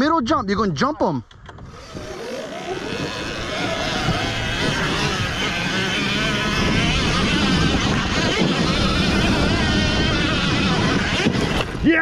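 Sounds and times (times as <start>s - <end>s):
wind rumble on microphone: 1.3s - 12.0s
electric motor whining: 1.5s - 12.0s.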